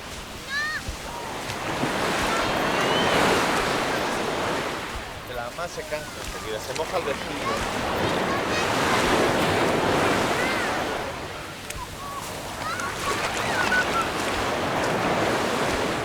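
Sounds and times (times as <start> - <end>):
sea waves breaking on beach: 0.0 - 16.0.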